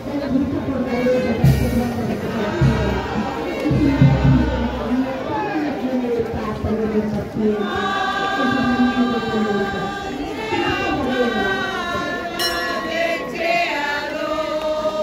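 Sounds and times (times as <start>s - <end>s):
choir singing a hymn: 0.9s - 5.6s, 7.4s - 15.0s.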